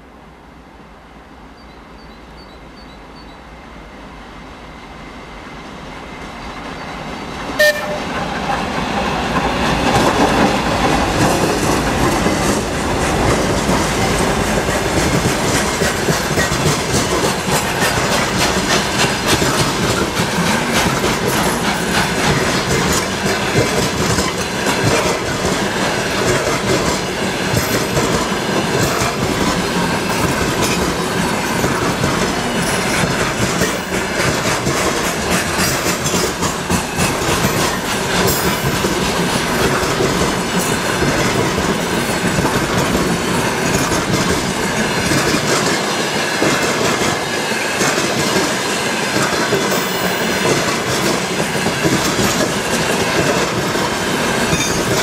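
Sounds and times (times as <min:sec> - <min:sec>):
diesel locomotives approaching: 0:00.0 - 0:55.0
wheels clacking over rail joints: 0:07.6 - 0:55.0.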